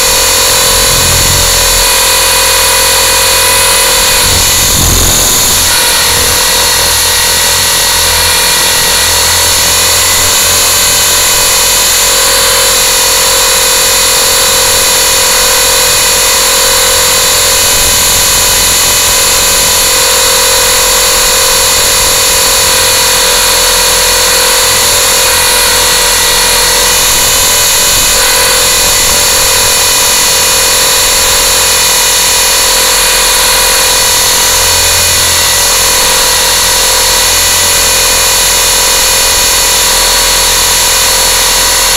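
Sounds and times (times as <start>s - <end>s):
drone motors whining: 0.0s - 41.9s.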